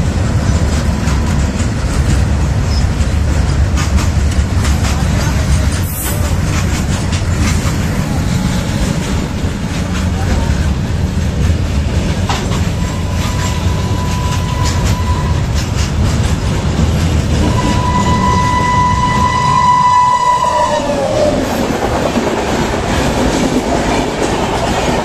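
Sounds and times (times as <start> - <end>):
freight train rumbling past: 0.0 - 25.0
wheels clacking over rail joints: 0.0 - 25.0.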